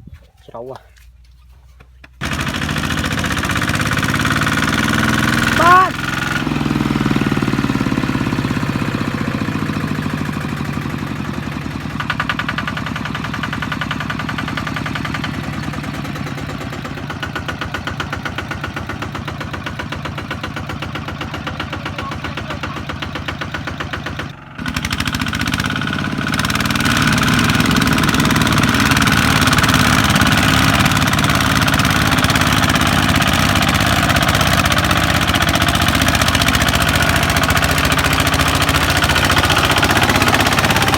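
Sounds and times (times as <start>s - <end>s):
diesel engine running: 2.2s - 40.9s.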